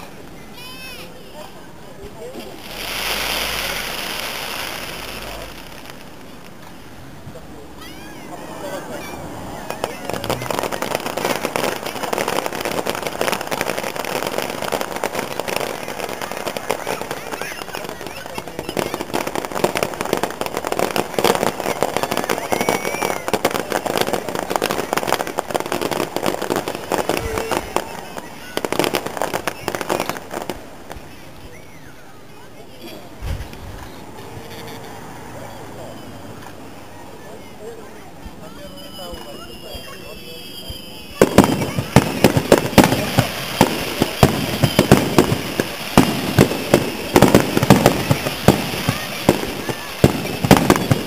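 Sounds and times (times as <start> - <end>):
fireworks crackling and popping: 0.0 - 51.0.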